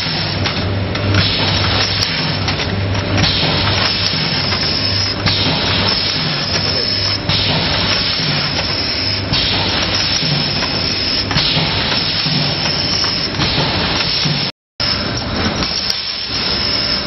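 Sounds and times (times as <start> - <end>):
low pulsing machine hum: 0.0 - 17.0
machine hissing: 0.0 - 17.0.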